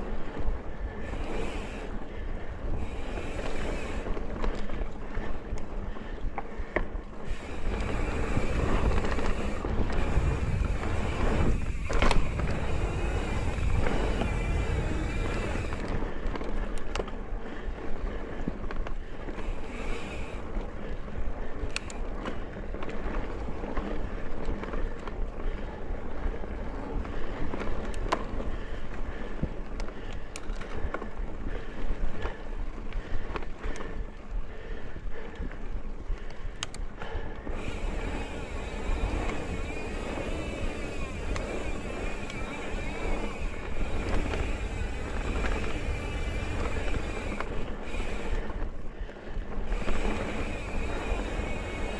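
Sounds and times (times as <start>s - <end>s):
bike clicks and rattles: 0.0s - 51.9s
bike tyre noise on dirt: 0.0s - 51.9s
wind rumble on microphone: 0.0s - 51.9s.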